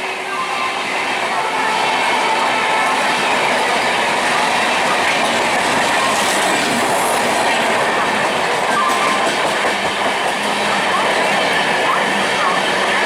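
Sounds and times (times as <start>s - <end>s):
train wheels rushing on rails: 0.0s - 13.0s.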